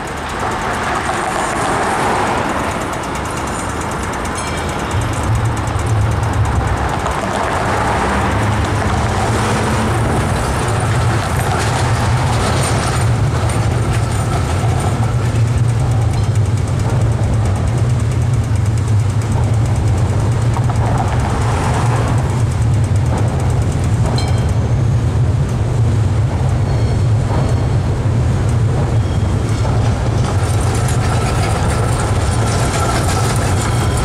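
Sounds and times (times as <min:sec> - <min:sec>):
low rumble of city traffic: 0:00.0 - 0:34.0
tram running past: 0:00.0 - 0:34.0
tram wheels clicking over rails: 0:00.0 - 0:34.0.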